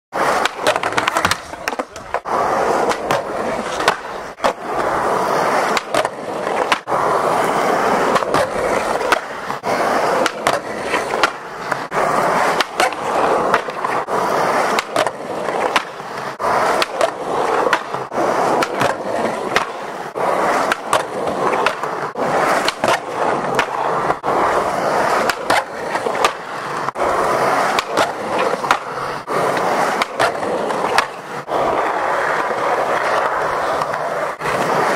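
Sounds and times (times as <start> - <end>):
skateboard clacks: 0.1 - 34.9
skateboard grinding on wooden ledge: 0.1 - 34.9
skateboard wheels rolling on concrete: 0.1 - 34.9.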